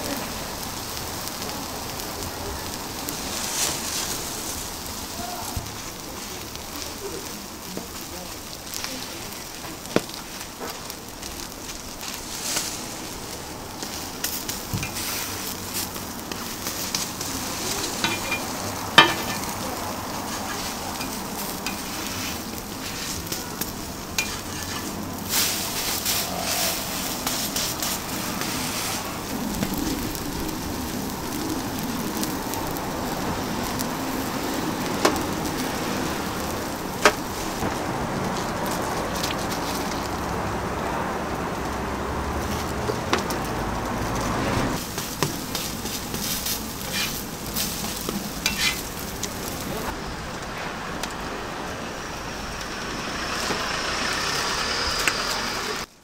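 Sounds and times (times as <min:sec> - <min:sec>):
food sizzling on griddle: 0:00.0 - 0:56.0.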